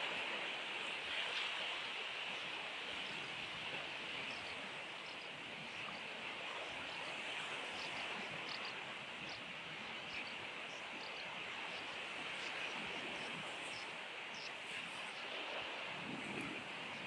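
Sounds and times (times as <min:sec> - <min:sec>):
surf washing on shore: 0:00.0 - 0:17.0.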